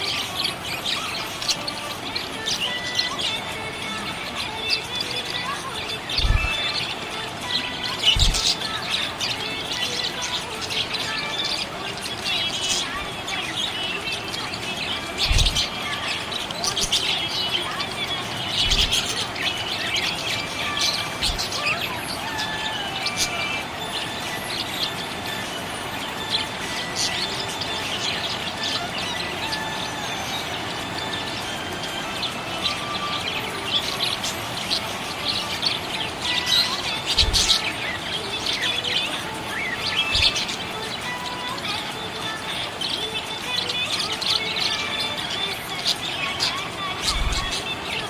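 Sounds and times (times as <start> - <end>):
budgies chirping: 0.0 - 48.0.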